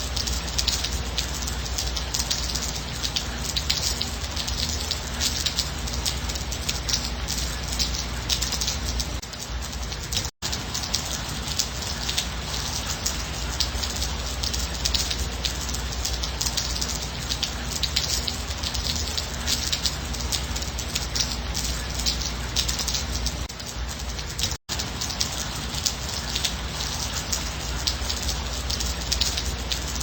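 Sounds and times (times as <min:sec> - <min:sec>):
rain drops pattering: 0:00.0 - 0:30.0.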